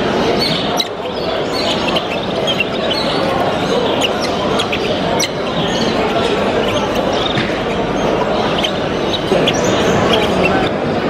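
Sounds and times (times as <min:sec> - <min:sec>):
birds chirping and squawking: 0:00.0 - 0:10.8
crowd chatter: 0:00.0 - 0:11.0.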